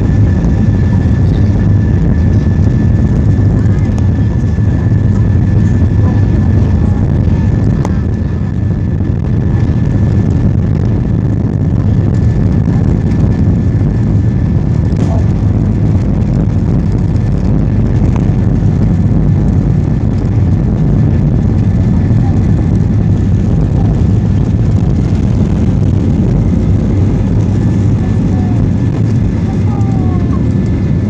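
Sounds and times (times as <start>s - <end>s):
jet engine cabin rumble: 0.0s - 31.0s
thin steady whine: 0.0s - 31.0s.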